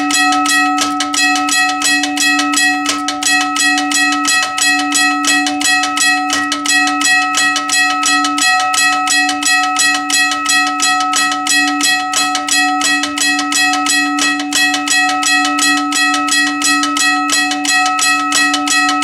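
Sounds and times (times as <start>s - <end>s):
railroad crossing bell ringing: 0.0s - 19.0s.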